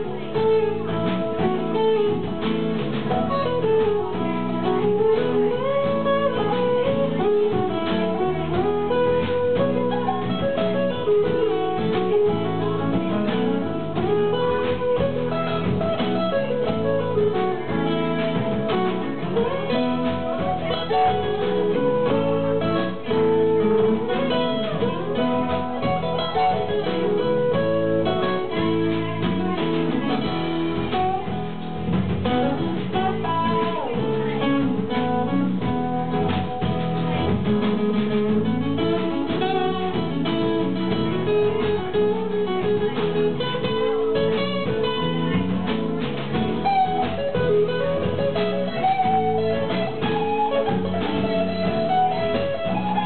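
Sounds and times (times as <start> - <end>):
guitar melody: 0.0 - 53.0
live country-rock band: 0.0 - 53.0
strummed acoustic guitar: 0.0 - 53.0.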